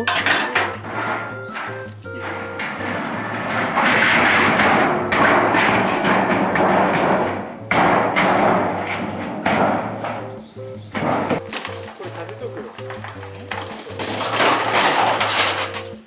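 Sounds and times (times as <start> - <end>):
metal drum rolling and grinding: 0.0 - 16.0
metal drum thuds: 0.0 - 16.0.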